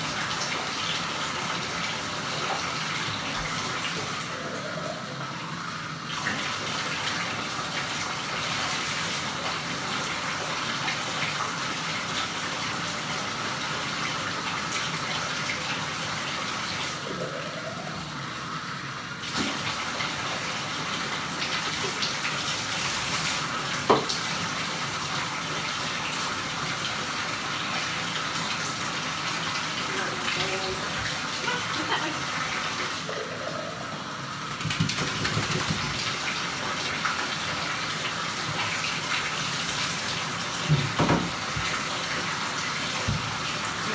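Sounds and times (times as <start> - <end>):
tap water running into tub: 0.0 - 43.9.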